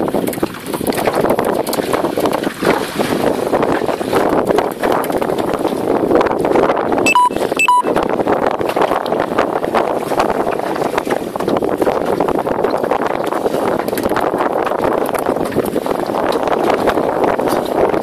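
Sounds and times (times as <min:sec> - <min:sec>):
water splashing against boat hull: 0:00.0 - 0:18.0
wind noise on microphone: 0:00.0 - 0:18.0.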